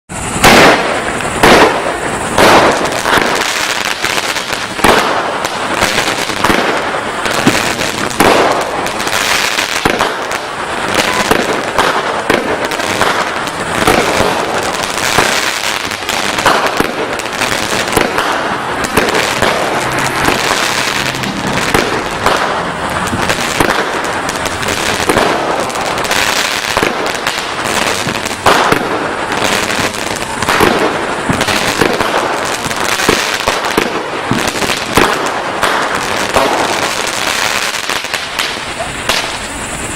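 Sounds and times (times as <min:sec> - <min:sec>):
fireworks cake sharp bangs: 0:00.1 - 0:39.9
fireworks crackling: 0:00.1 - 0:39.9.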